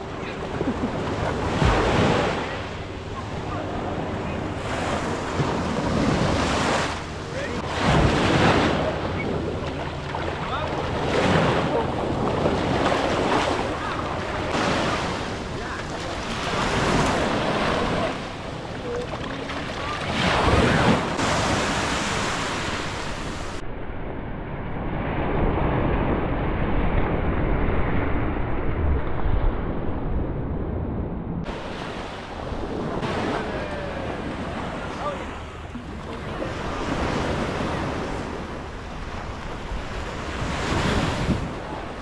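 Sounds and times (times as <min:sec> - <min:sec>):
surf washing over sand: 0:00.0 - 0:23.6, 0:31.5 - 0:42.0
wind buffeting microphone: 0:00.0 - 0:42.0.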